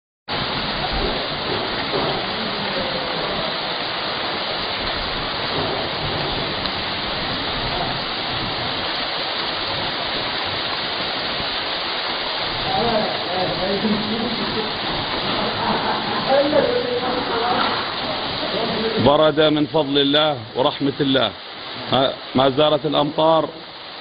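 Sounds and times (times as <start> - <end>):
heavy rain pouring: 0.3 - 24.0.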